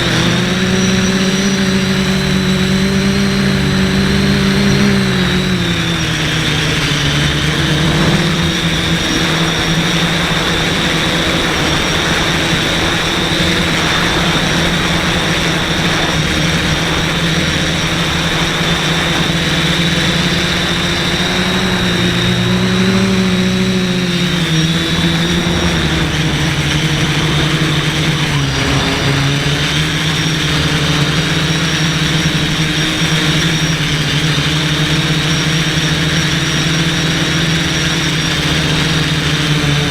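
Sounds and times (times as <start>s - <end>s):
quadcopter motors whirring: 0.0s - 39.9s.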